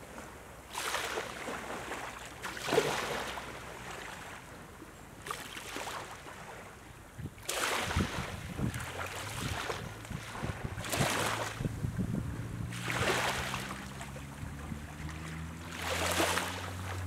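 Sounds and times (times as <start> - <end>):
small waves lapping on sand: 0.0 - 17.0.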